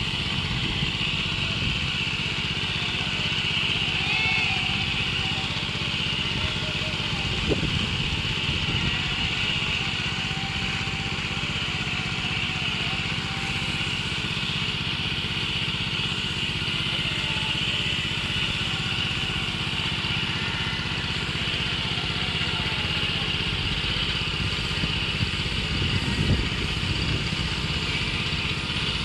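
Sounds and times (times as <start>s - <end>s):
small sprayer engine running: 0.0s - 29.0s.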